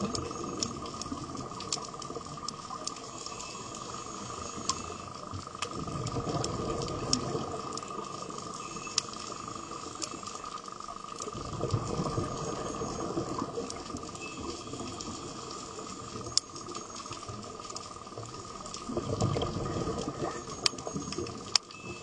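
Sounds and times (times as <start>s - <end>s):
bubbling gurgling water: 0.0s - 22.0s.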